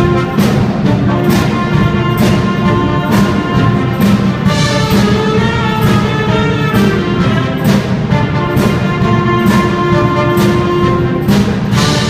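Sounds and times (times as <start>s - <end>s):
brass band playing: 0.0s - 12.0s
steady drum beat: 0.0s - 12.0s.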